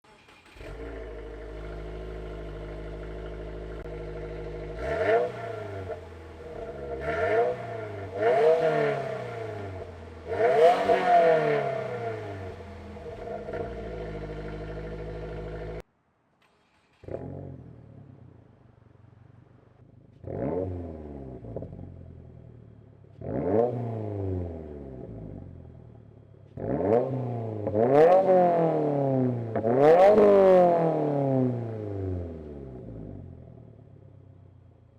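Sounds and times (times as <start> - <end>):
car engine idling and revving: 0.0 - 15.9, 16.6 - 34.9.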